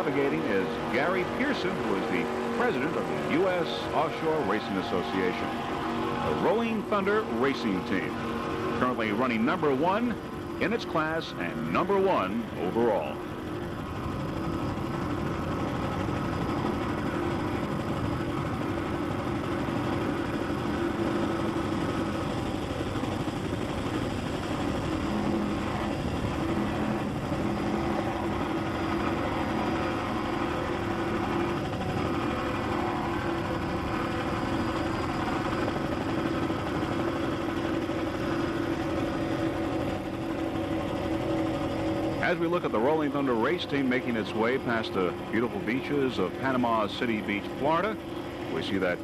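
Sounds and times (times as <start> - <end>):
powerboat engines droning: 0.0 - 49.0.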